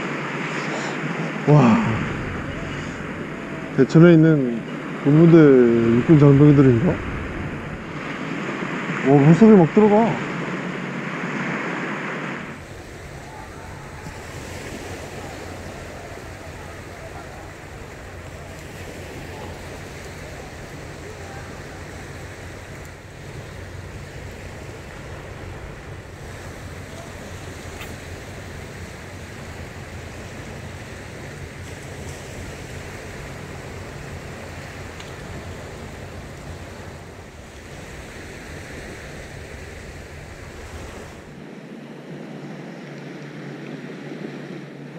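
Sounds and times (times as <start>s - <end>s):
waves washing up a beach: 0.0s - 44.9s
wind on microphone: 4.8s - 44.9s.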